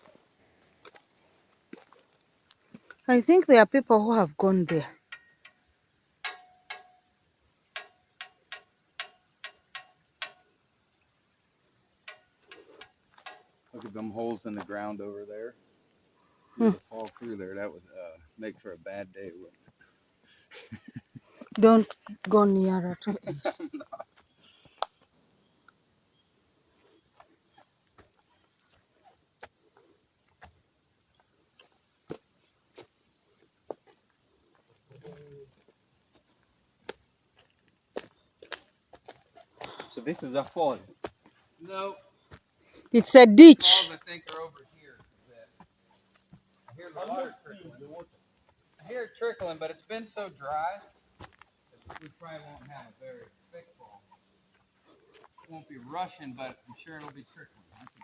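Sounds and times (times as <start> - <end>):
faint insect chirping: 0.1 - 3.9, 4.9 - 38.3, 45.9 - 57.4.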